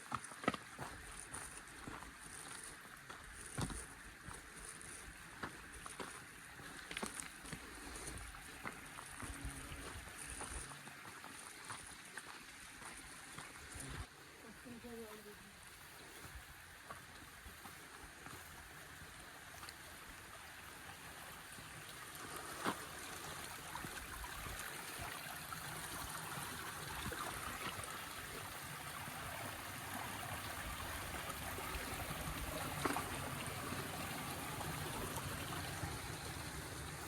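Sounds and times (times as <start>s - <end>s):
stream water trickling: 0.0s - 37.0s.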